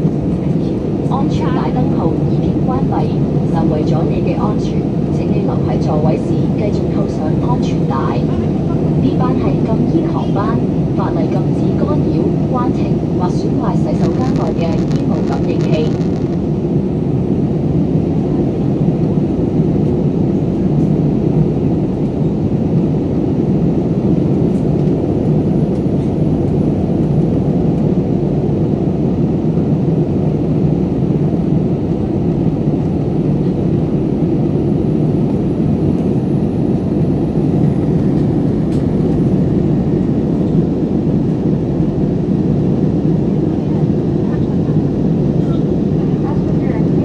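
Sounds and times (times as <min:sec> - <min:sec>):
airliner cabin roar: 0:00.0 - 0:47.0.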